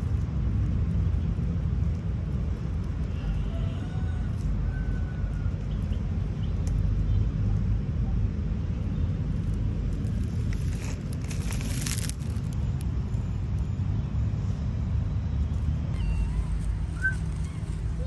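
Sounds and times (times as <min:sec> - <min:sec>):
rustle of dry leaves: 0:00.0 - 0:07.4, 0:08.8 - 0:14.4, 0:15.4 - 0:18.0.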